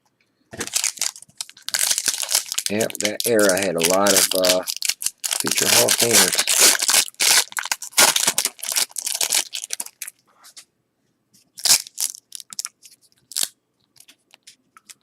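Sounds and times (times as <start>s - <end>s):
card pack wrapper crinkling: 0.6s - 10.1s, 11.6s - 15.0s.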